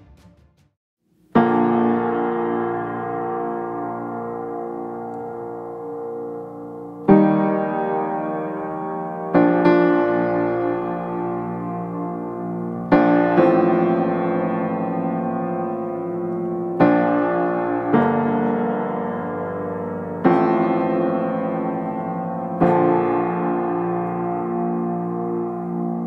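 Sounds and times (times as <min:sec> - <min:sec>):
slow piano chords: 0:01.1 - 0:26.0.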